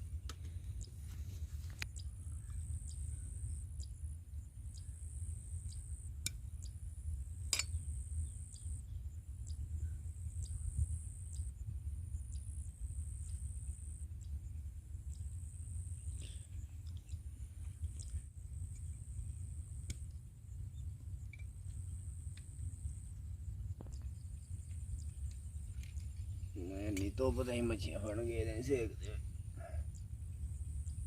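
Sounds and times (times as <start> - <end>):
crickets chirping: 0.0 - 31.0
steady low rumble: 0.0 - 31.0.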